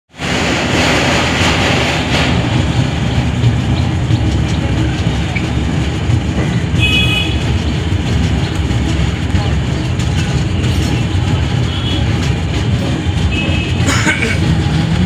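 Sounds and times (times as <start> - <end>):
train wheels rumbling and rattling: 0.1 - 15.0.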